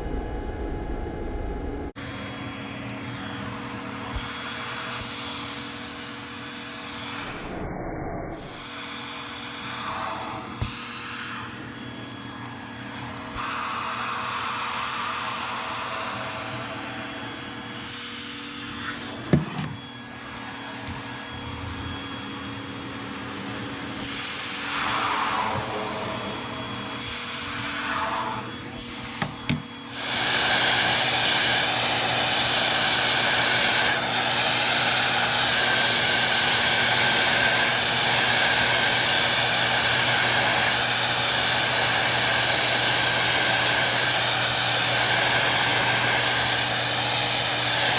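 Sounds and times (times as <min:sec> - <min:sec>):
vacuum cleaner running: 0:01.9 - 0:47.9.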